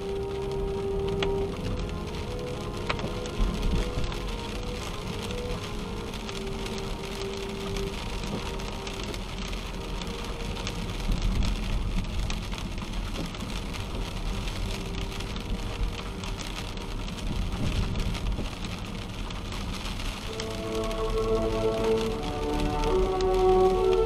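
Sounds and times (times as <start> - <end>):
rain on car windshield: 0.0 - 24.0
tyres hissing on wet road: 0.0 - 24.0.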